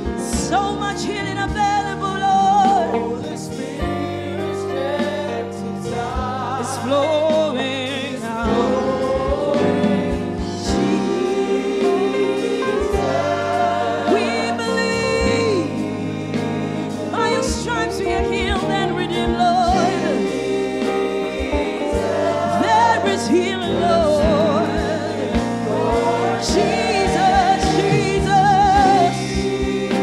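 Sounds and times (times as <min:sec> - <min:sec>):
gospel worship singing: 0:00.0 - 0:30.0.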